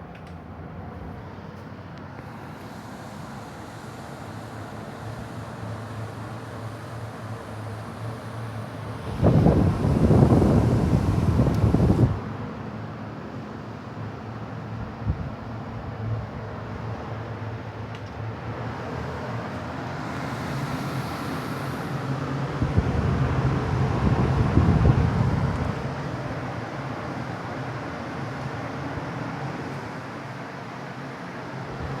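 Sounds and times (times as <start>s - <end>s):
pedestal fan running: 0.0s - 32.0s.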